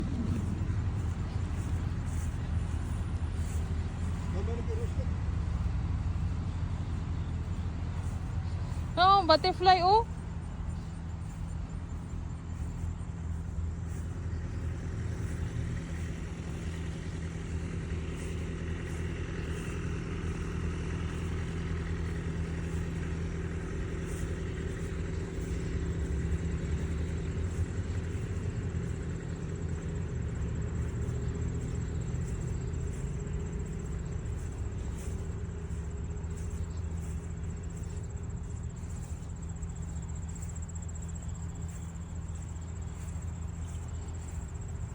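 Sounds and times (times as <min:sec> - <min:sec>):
low mechanical rumble: 0:00.0 - 0:44.9.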